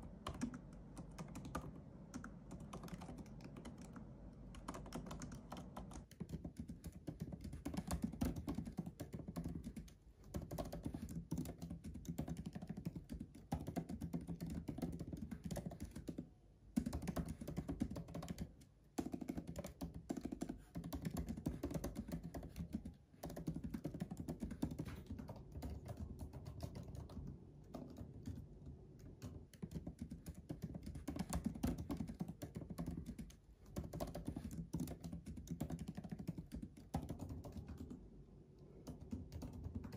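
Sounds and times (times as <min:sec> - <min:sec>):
fast typing on laptop keyboard: 0:00.0 - 0:38.0, 0:38.8 - 0:39.9.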